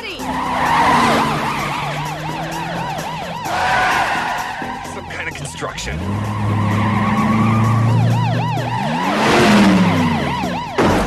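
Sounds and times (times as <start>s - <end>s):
heavy engine running: 0.0s - 11.0s
police sirens yelping: 0.0s - 11.0s.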